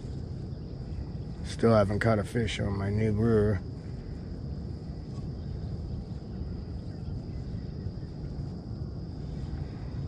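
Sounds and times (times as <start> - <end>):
high-pitched insect drone: 0.0 - 10.0
low uneven rumble: 0.0 - 10.0.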